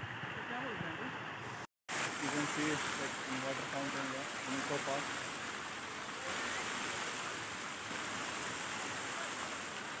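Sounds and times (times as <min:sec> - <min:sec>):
fountain water splashing: 0:00.0 - 0:10.0.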